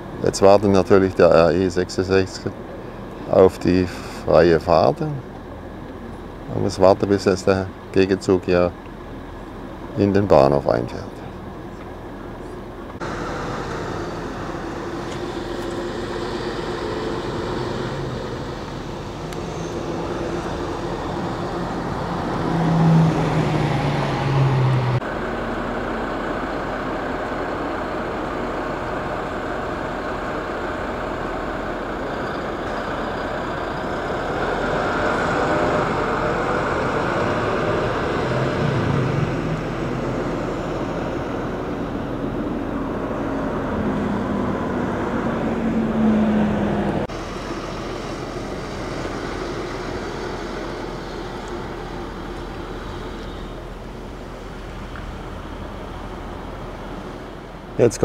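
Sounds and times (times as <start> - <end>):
bus diesel engines driving past: 0.0 - 58.0
road traffic noise: 0.0 - 58.0.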